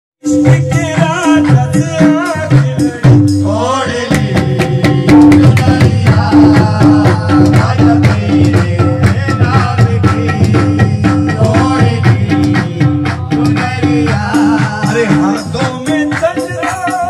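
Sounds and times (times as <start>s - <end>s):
person singing: 0.2s - 17.0s
tabla beat: 0.2s - 17.0s.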